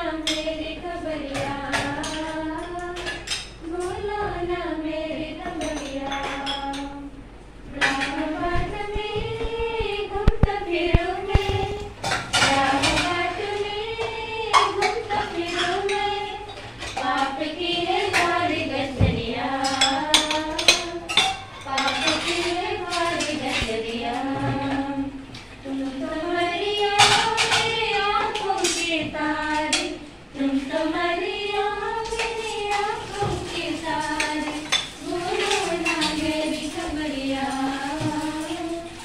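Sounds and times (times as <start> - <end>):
women singing: 0.0 - 39.0
plates and cutlery clattering: 1.2 - 4.0, 5.4 - 7.0, 7.7 - 8.7, 11.0 - 31.0, 31.8 - 39.0.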